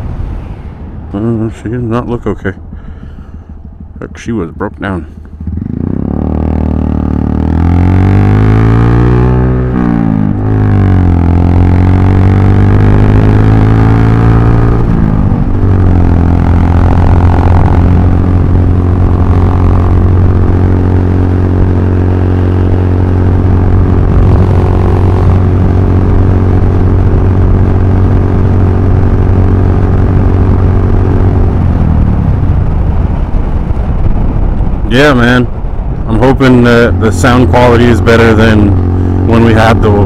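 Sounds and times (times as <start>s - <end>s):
motorcycle engine running: 2.1s - 40.0s.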